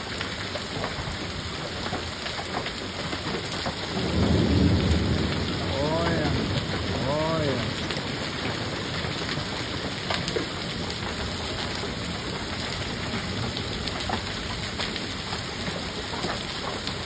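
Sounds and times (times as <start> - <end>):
hailstones ticking on pavement: 0.0 - 17.0
heavy rain: 0.0 - 17.0.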